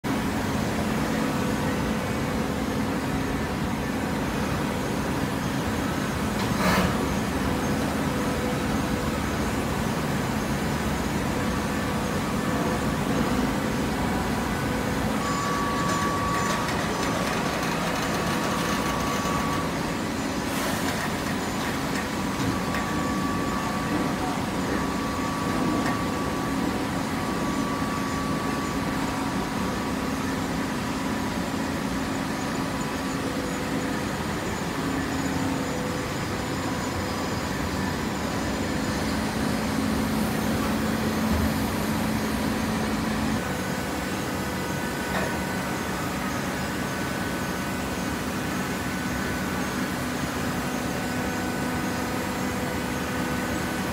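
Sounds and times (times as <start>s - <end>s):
hydraulic baler droning: 5.6s - 53.9s.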